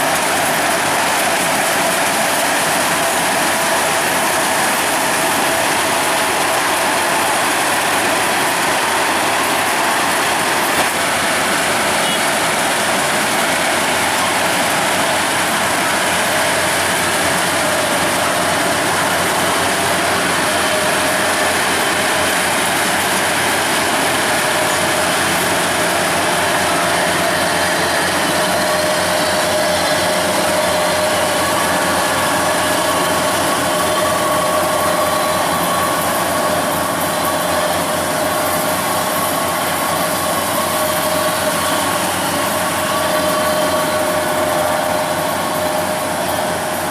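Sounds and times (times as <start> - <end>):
harvester diesel engine running: 0.0 - 46.9
mechanical whine: 0.0 - 46.9.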